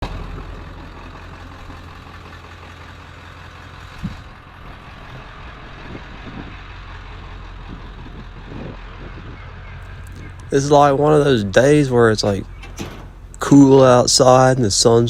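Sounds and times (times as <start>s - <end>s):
motor vehicle running: 0.0s - 15.0s
road or wind noise: 0.0s - 15.0s.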